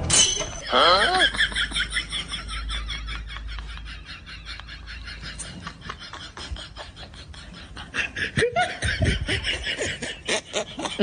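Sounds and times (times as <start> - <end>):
person snickering and giggling: 0.6 - 11.0.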